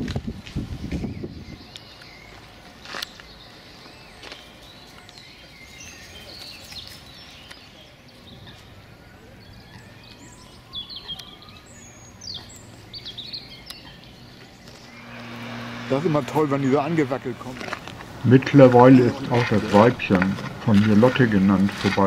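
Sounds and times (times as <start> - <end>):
outdoor background noise: 0.0 - 22.0
small songbirds chirping: 0.6 - 22.0.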